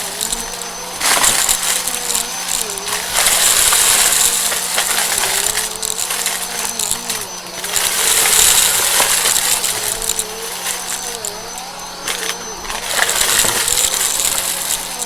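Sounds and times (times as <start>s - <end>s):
small clicks and rattles: 0.0s - 15.0s
vacuum cleaner running: 0.0s - 15.0s.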